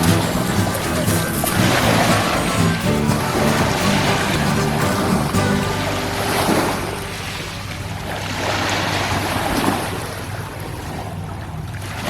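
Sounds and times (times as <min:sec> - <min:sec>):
small waves washing on shore: 0:00.0 - 0:12.0.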